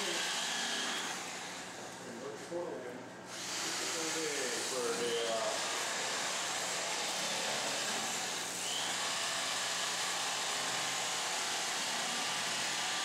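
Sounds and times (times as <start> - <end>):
electric fillet knife humming: 0.0 - 1.9, 3.3 - 13.0.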